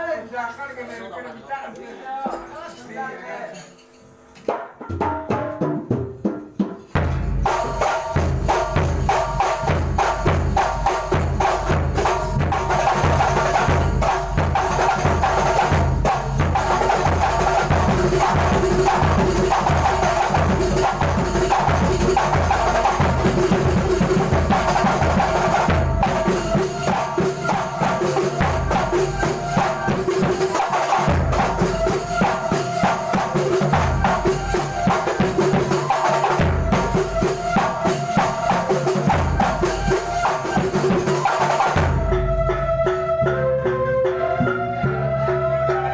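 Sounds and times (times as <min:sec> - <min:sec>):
jingling percussion: 0:02.2 - 0:04.4, 0:06.3 - 0:43.1
hand drums playing fast rhythm: 0:04.5 - 0:42.8.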